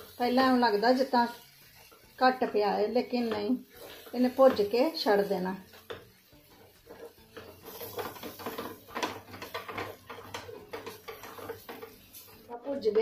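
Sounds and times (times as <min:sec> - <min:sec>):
spatula scraping paste in pan: 0:00.0 - 0:12.9.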